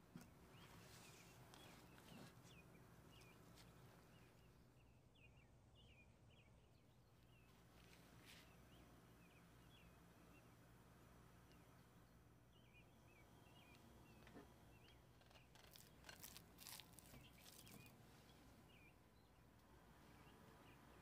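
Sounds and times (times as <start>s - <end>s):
faint bird chirping: 0.0s - 21.0s
low steady hum: 0.0s - 21.0s.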